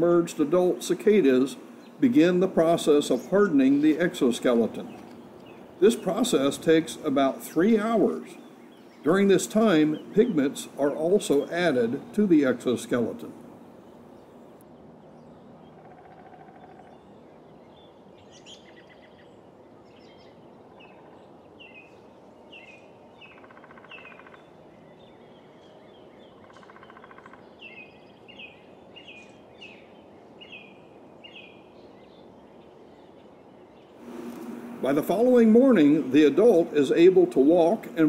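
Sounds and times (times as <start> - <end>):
birds chirping: 0.0 - 38.0
steady background hiss: 0.0 - 38.0
buzzy bird calls: 0.6 - 14.6, 15.2 - 33.2.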